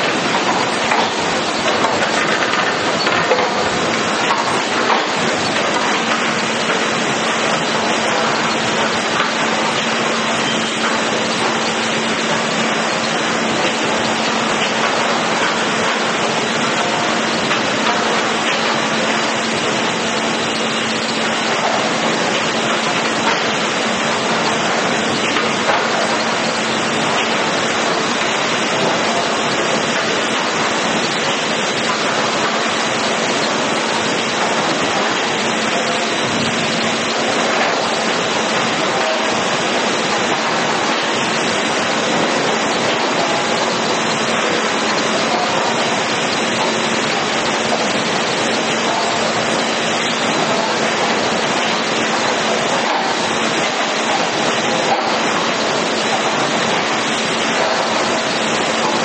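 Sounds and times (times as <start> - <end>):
constant machine hum: 0.0 - 59.0
sawmill machinery running: 0.0 - 59.0.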